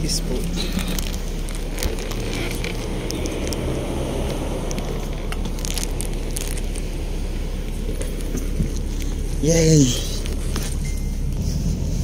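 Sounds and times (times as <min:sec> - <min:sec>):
bus interior rumble and hum: 0:00.0 - 0:12.0.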